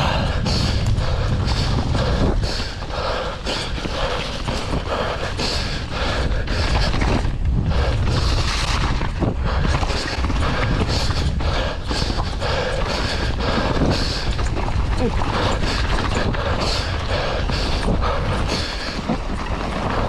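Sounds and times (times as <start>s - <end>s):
bike tyre and chain noise: 0.0s - 20.0s
wind buffeting microphone: 0.0s - 20.0s.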